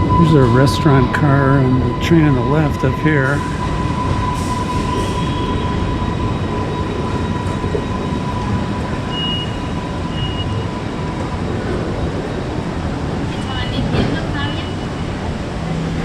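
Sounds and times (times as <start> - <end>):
electric trains rumbling: 0.0 - 16.0
high whine: 0.0 - 16.0.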